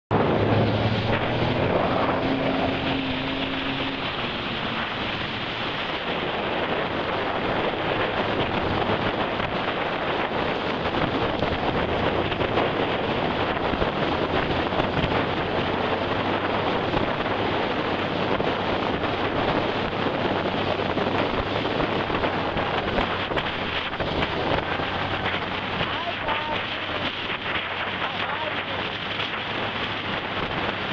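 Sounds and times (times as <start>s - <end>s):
boat engine hum: 0.1s - 30.9s
churning wake water: 0.1s - 30.9s
wind buffeting microphone: 0.1s - 30.9s.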